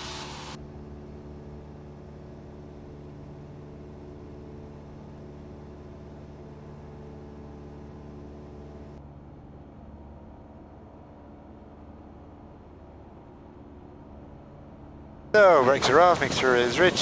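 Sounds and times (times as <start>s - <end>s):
aircraft engine and propeller droning: 0.0s - 17.0s.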